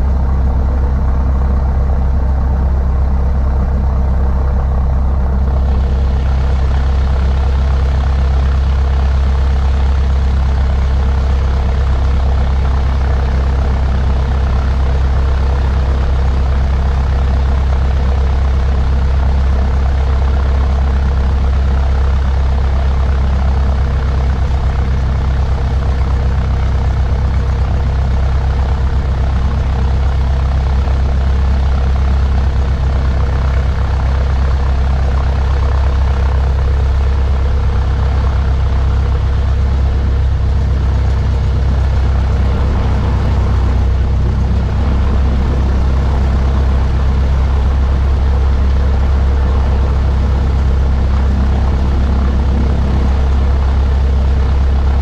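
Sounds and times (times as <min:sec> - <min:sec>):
airplane engine and propeller idling: 0:00.0 - 0:55.0.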